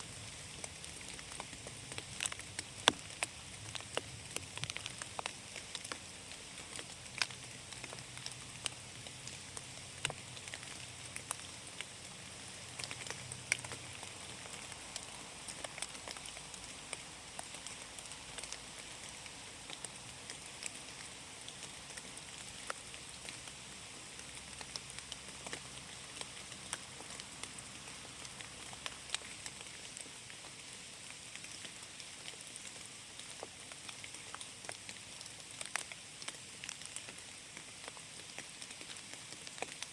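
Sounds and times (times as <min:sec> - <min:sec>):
light rain falling: 0:00.0 - 0:39.9
raindrops ticking: 0:00.2 - 0:39.9.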